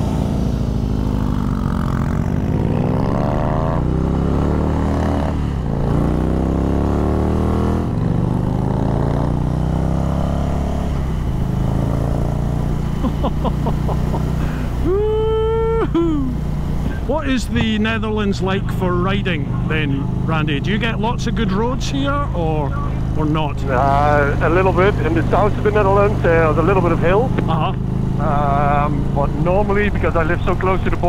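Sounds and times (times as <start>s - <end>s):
motorcycle accelerating through gears: 0.0s - 14.9s, 17.9s - 31.0s.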